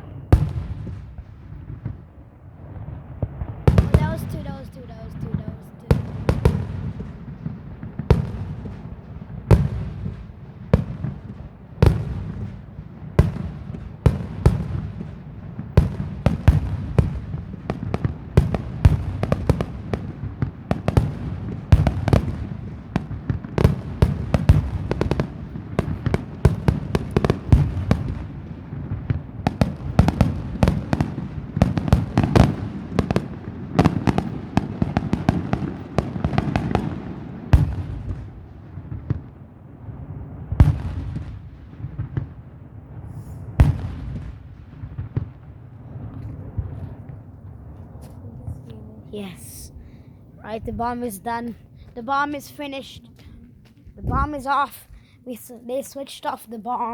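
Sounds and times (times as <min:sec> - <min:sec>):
low rumble of echoing blasts: 0:00.0 - 0:55.2
fireworks bangs and crackles: 0:00.0 - 0:56.9.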